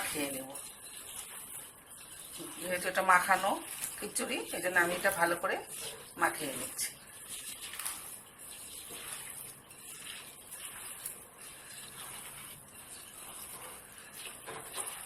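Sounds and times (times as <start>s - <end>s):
hands squishing rice mixture: 0.0s - 15.0s.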